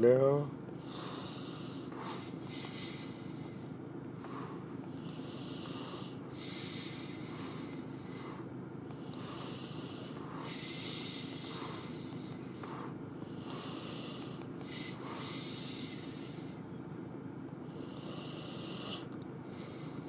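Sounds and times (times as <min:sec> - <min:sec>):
steady low hum: 0:00.0 - 0:20.0
person breathing close to microphone: 0:00.8 - 0:16.6, 0:17.7 - 0:20.0.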